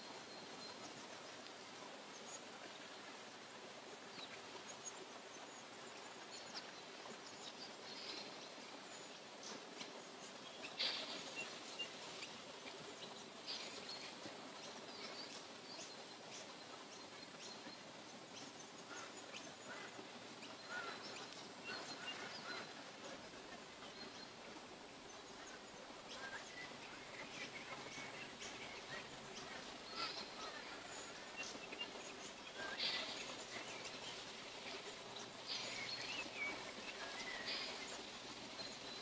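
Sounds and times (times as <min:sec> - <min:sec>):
faint steady forest hiss: 0:00.0 - 0:39.0
wild birds chirping: 0:00.0 - 0:39.0.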